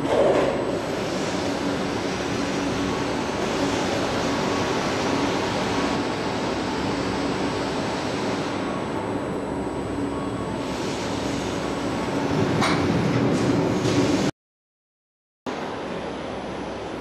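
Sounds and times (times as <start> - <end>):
hydraulic machinery humming and hissing: 0.0 - 14.3.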